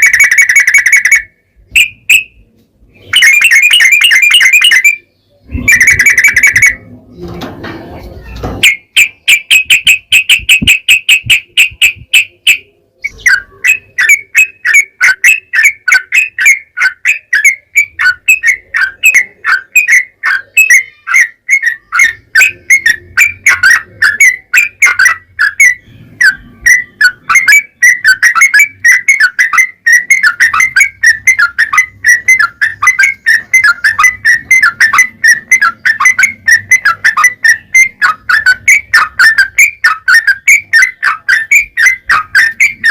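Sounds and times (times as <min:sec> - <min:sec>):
bulbul singing rapid song: 0:00.0 - 0:07.5, 0:08.1 - 0:42.9.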